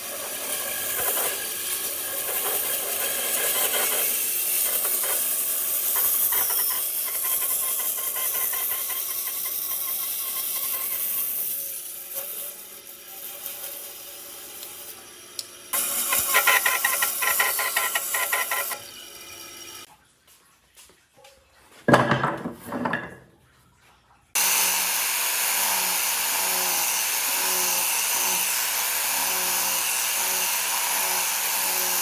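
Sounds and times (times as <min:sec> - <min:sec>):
tool hissing on wood: 0:00.0 - 0:19.9, 0:24.4 - 0:32.0.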